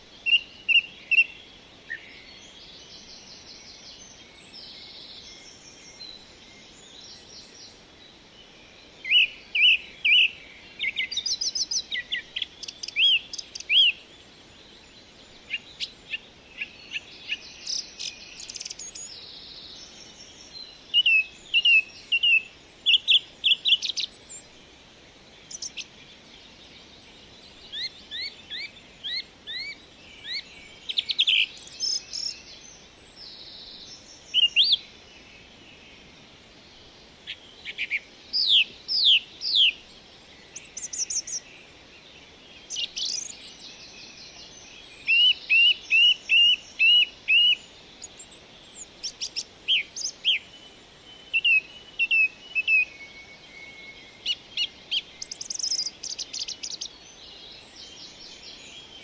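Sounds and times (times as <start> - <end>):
faint steady hiss: 0.0 - 59.0
songbirds chirping: 0.0 - 59.0.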